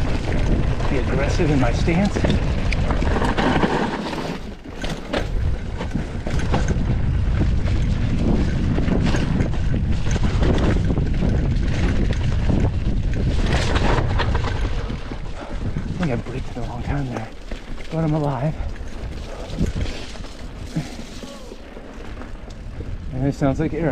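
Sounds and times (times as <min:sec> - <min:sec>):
bike rattling and knocking: 0:00.0 - 0:23.9
bike tyre noise on dirt: 0:00.0 - 0:23.9
wind buffeting microphone: 0:00.0 - 0:23.9.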